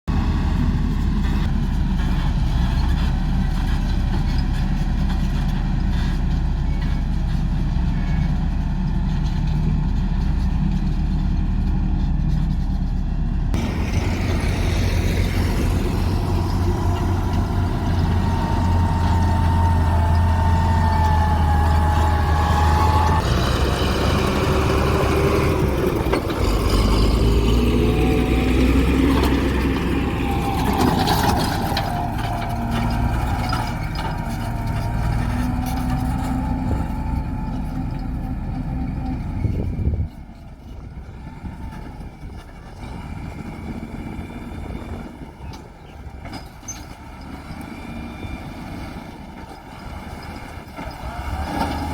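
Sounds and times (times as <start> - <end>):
heavy diesel machinery engine: 0.1 - 51.9.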